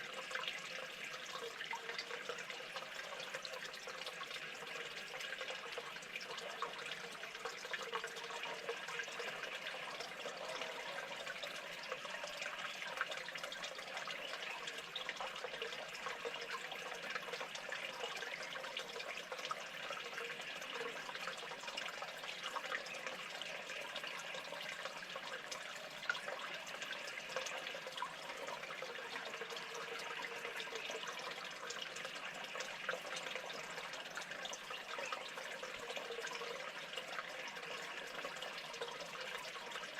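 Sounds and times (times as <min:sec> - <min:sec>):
small water drips: 0:00.0 - 0:39.9
water running and trickling: 0:00.0 - 0:39.9.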